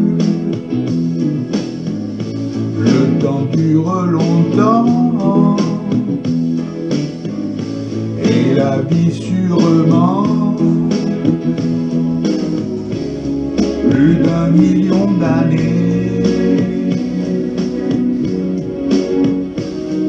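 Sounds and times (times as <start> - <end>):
pop music with guitar: 0.0 - 20.0.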